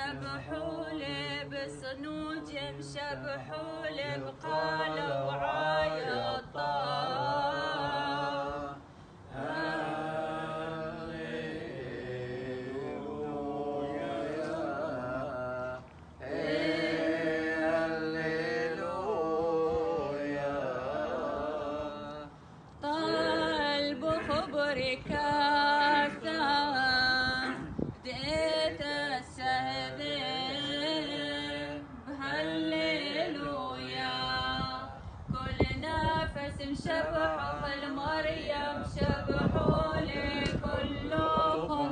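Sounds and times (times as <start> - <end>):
unaccompanied liturgical chant: 0.0 - 41.9.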